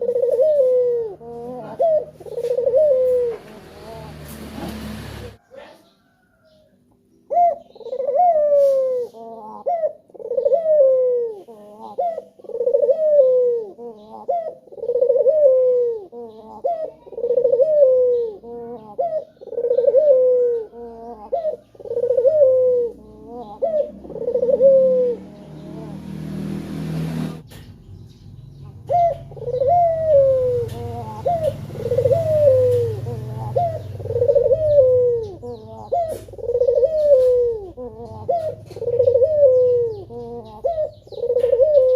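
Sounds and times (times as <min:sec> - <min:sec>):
dove cooing: 0:00.0 - 0:06.6, 0:07.3 - 0:27.5, 0:28.6 - 0:41.9.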